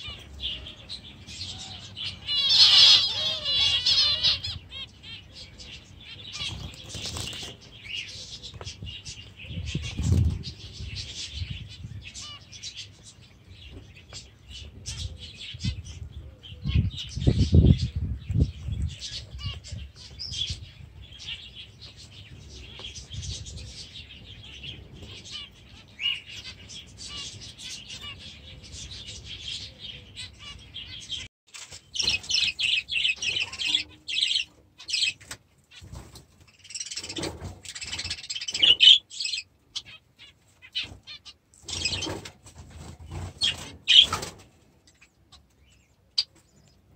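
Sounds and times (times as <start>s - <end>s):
budgerigars chattering and chirping: 0.0s - 42.3s, 42.9s - 46.8s.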